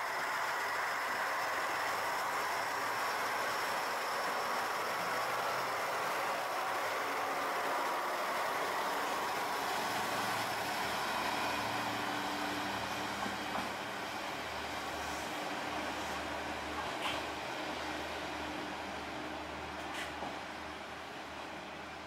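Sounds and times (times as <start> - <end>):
diesel railcar pulling away: 0.0 - 22.0
low diesel engine hum: 0.0 - 22.0.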